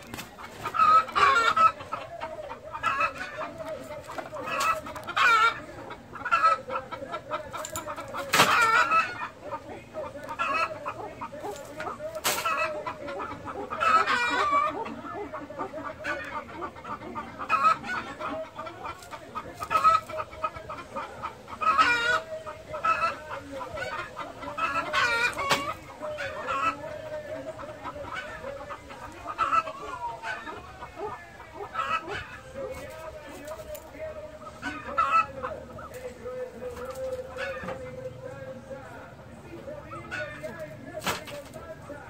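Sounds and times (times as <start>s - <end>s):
pheasants clucking and calling: 0.0s - 42.0s.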